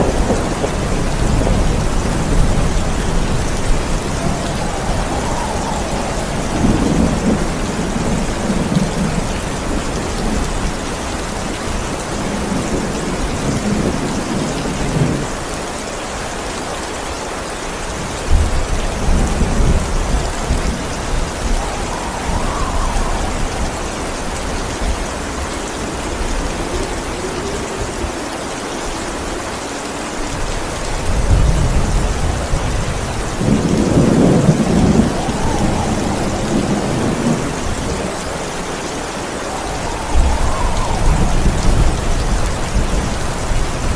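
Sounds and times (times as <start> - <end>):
thunder rumbling: 0.0 - 15.7, 17.9 - 43.9
steady rain: 0.0 - 43.9.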